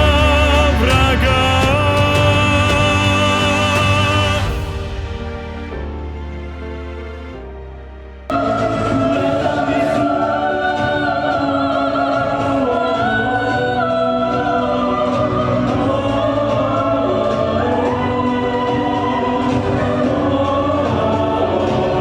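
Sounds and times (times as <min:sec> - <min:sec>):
choir singing held notes: 0:00.0 - 0:05.9, 0:08.3 - 0:22.0
musical accompaniment: 0:00.0 - 0:22.0.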